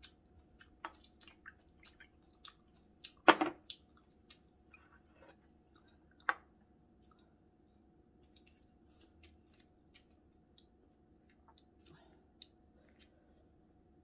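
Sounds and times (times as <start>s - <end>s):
faint chewing: 0.0s - 13.5s.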